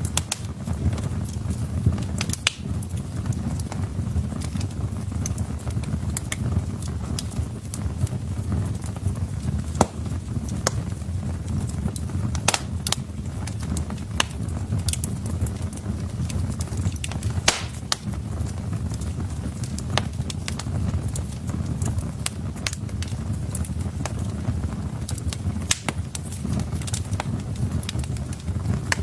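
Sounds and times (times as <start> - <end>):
fire flames rumbling: 0.0 - 29.0
logs crackling and popping: 0.0 - 29.0.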